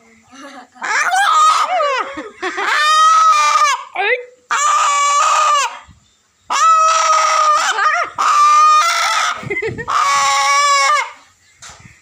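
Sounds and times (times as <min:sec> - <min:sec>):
rooster calling loudly: 0:00.8 - 0:11.2.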